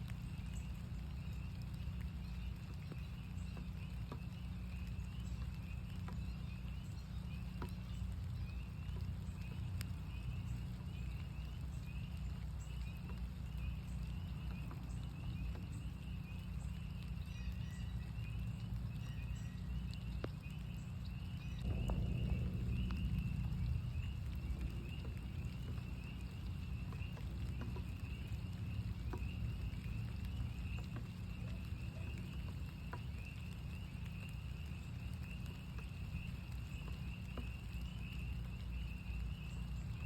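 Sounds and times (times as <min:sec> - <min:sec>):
frogs peeping: 0:00.0 - 0:40.0
low rumble: 0:00.0 - 0:40.0
raindrops tapping: 0:00.0 - 0:40.0.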